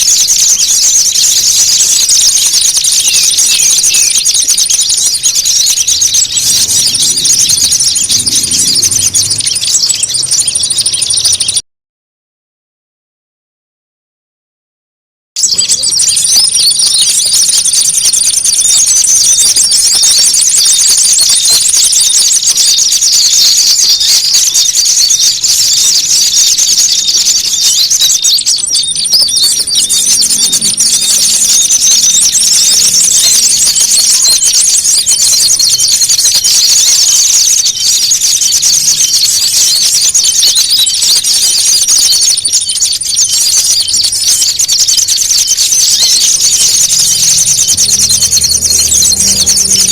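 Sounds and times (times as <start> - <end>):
songbirds chirping and twittering: 0.0 - 11.6, 15.4 - 49.9.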